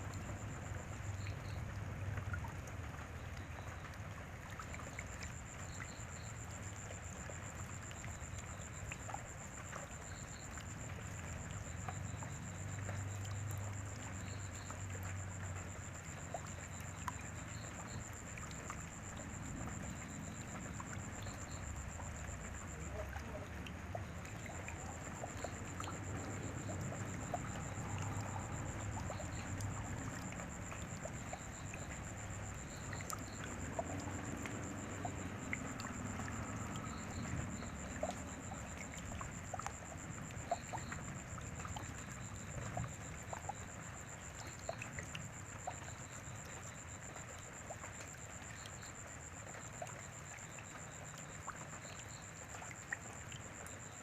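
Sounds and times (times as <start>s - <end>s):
rain falling: 0.0s - 48.6s.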